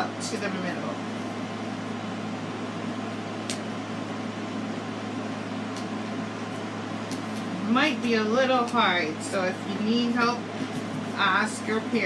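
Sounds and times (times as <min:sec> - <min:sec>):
steady background hum and hiss: 0:00.0 - 0:12.0.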